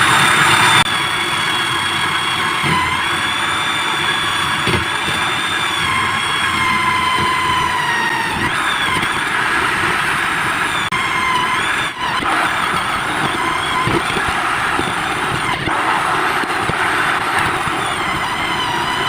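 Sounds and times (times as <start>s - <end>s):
electric drill motor whining: 0.0s - 19.0s.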